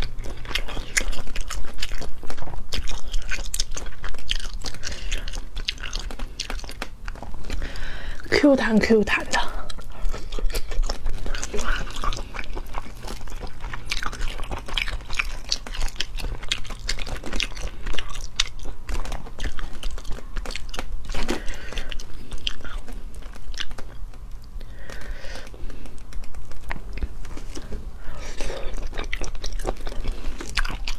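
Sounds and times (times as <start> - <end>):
wet chewing and biting: 0.0 - 8.3, 9.3 - 30.9.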